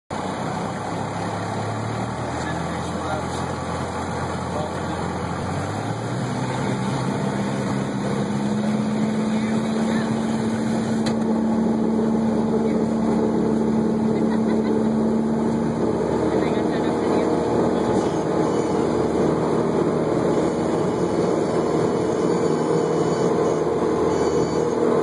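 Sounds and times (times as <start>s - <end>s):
propeller aircraft engine from cockpit: 0.1s - 25.0s.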